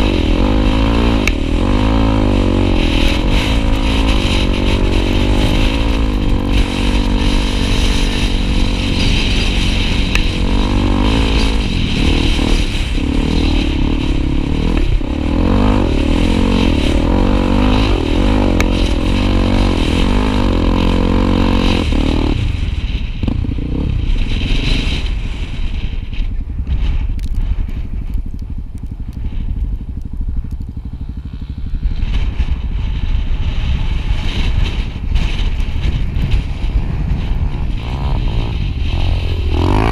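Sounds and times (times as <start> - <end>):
motorcycle engine revving: 0.0 - 39.9
road rumble: 0.0 - 39.9
wind rumble on microphone: 0.0 - 39.9.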